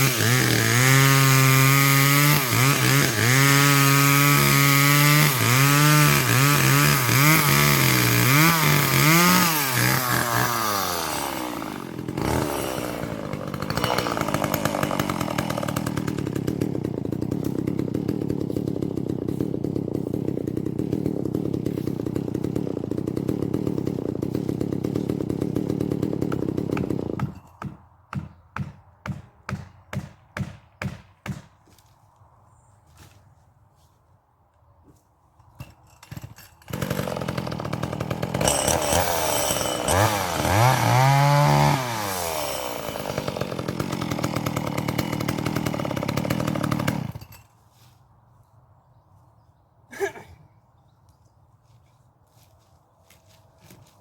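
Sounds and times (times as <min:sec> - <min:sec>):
chainsaw cutting wood: 0:00.0 - 0:31.9, 0:35.5 - 0:47.5.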